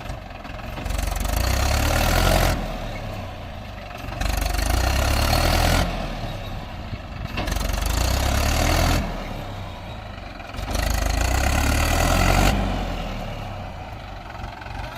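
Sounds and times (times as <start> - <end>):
tractor diesel engine revving: 0.0 - 14.9.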